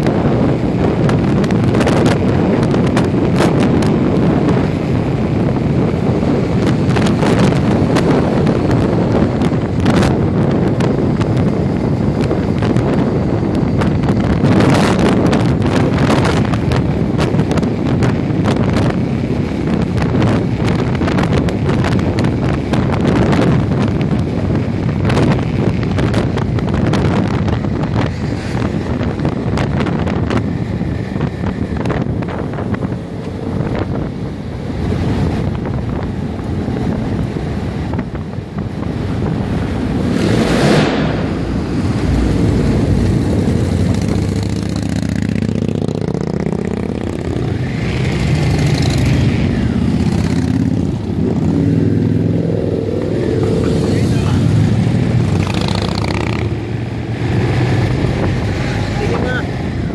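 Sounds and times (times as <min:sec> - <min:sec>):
motorcycle engine: 0:00.0 - 0:59.9
passing traffic: 0:00.0 - 0:59.9
wind buffeting microphone: 0:00.0 - 0:59.9.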